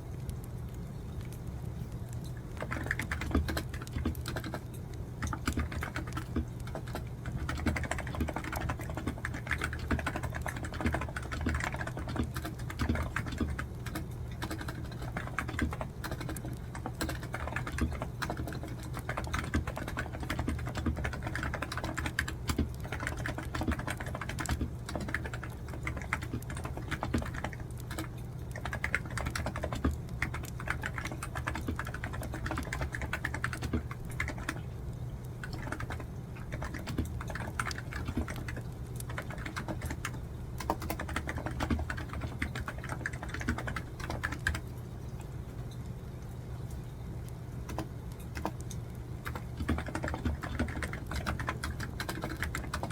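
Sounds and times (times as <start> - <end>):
steady low hum: 0.0 - 52.9
typing on a computer keyboard: 2.0 - 44.8, 47.6 - 52.9.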